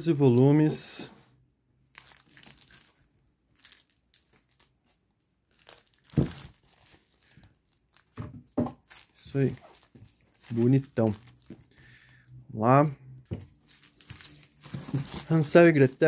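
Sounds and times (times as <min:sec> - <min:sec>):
plastic sleeves crinkling: 0:01.8 - 0:12.3, 0:13.3 - 0:16.0.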